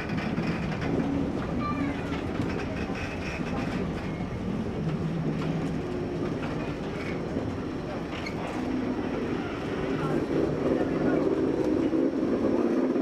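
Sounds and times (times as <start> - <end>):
train rolling with wheel clatter: 0.0 - 13.0.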